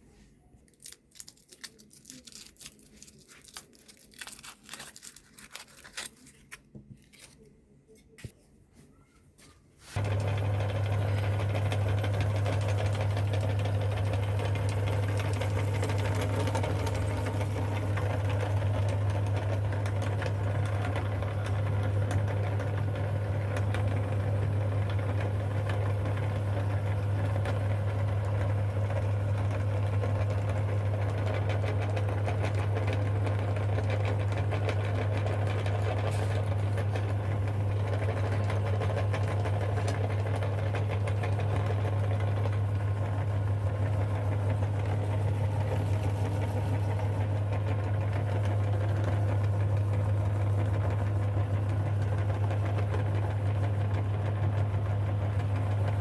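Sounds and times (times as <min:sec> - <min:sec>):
meat grinder humming: 0:10.0 - 0:56.0.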